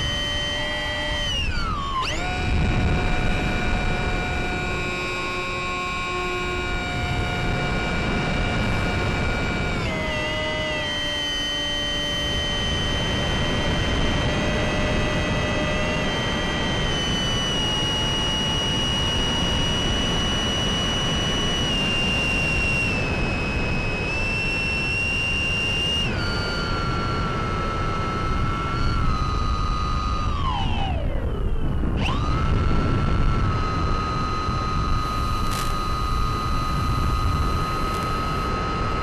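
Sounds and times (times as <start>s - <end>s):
electric motor high whine: 0.0s - 39.0s.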